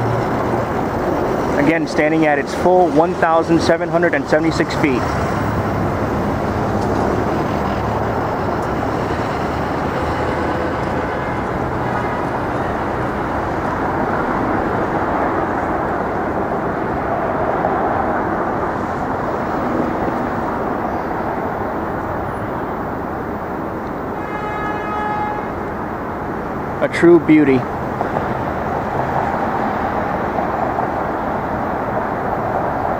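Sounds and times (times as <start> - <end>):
busy street traffic: 0.0 - 32.9.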